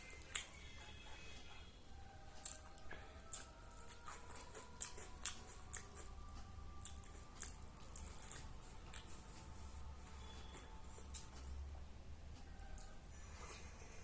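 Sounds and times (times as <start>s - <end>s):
close chewing: 0.0s - 1.6s, 2.3s - 11.7s, 12.4s - 14.0s.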